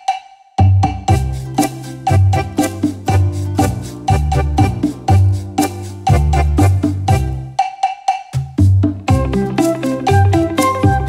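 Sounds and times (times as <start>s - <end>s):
background music with bass and beat: 0.0s - 11.0s.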